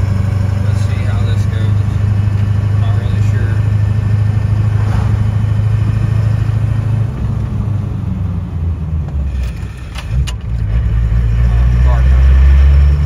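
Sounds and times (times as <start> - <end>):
car engine deep rumble: 0.0 - 13.0.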